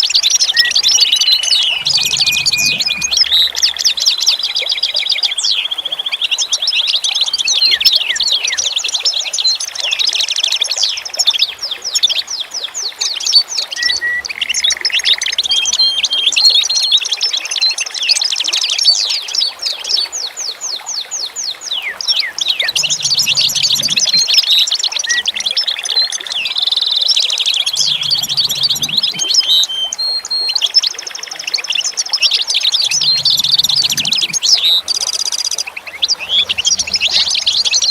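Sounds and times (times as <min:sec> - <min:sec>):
birds chirping and twittering: 0:00.0 - 0:37.9.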